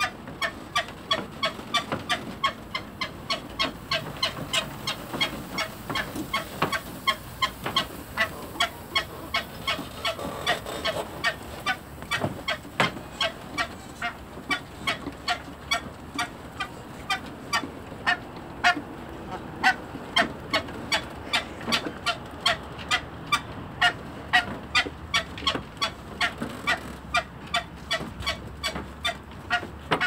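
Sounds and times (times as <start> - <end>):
ducks quacking: 0.0 - 26.4.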